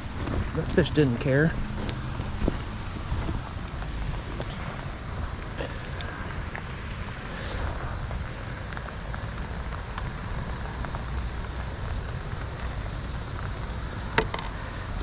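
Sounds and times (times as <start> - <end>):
steady rain falling: 2.0 - 15.0.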